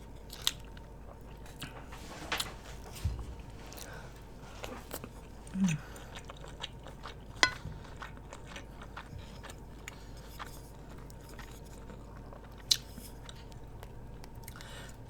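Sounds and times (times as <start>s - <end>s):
person chewing: 0.3s - 1.8s, 3.7s - 15.0s.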